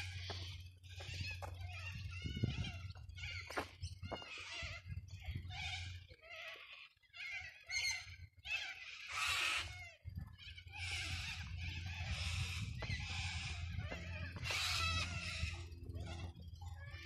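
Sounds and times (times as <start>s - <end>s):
birds harsh rasping calls: 0.0s - 17.0s.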